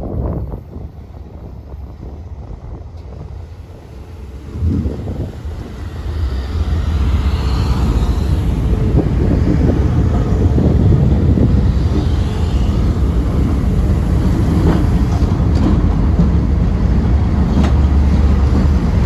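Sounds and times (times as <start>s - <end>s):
train approaching with low rumble: 0.0s - 19.0s.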